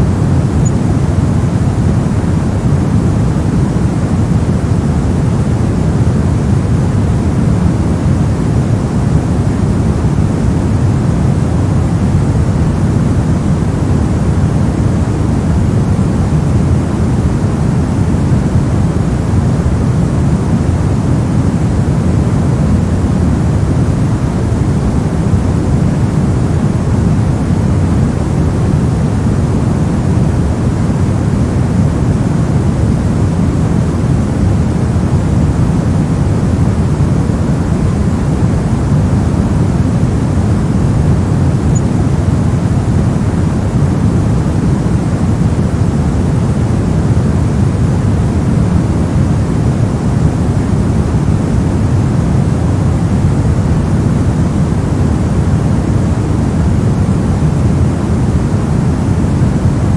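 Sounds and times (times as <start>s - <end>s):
steady deep hiss and rumble: 0.0s - 59.9s.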